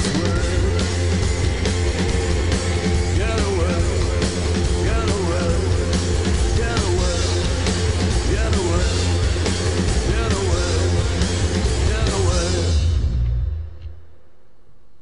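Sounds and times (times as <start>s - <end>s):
rock band playing live: 0.0s - 13.2s.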